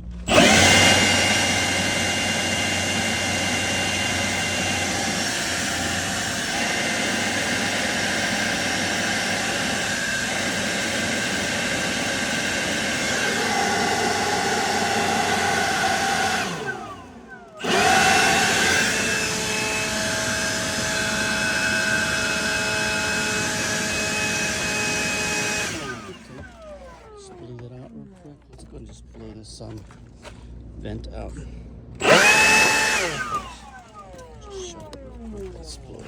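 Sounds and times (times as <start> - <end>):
leaf blower running: 0.0 - 28.6, 32.0 - 36.0.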